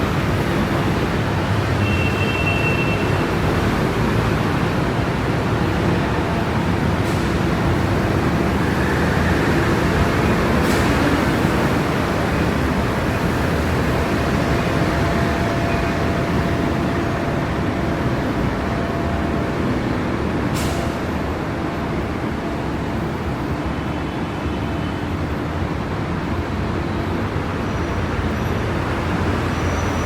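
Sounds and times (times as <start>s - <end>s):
traffic on wet roads: 0.0s - 30.0s.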